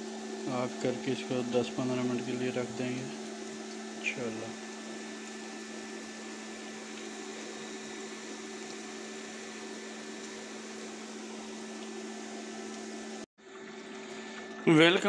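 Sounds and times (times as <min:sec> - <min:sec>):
kitchen appliance hum and fan hiss: 0:00.0 - 0:15.0.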